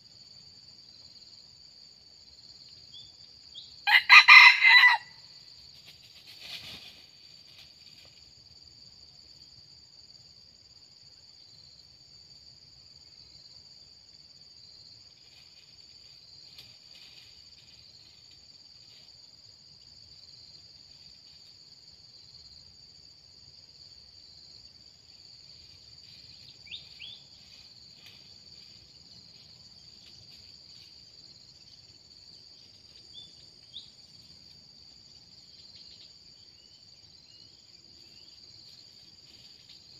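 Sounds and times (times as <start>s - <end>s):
faint insect chirps: 0.0s - 39.9s.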